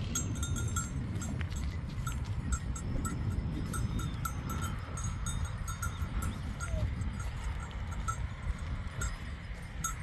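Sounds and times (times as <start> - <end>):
livestock bells clinking: 0.0 - 10.0.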